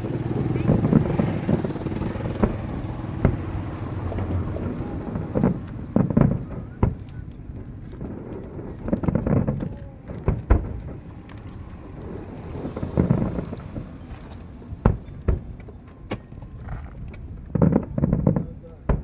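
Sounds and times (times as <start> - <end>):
fireworks shells bursting: 0.0 - 15.6.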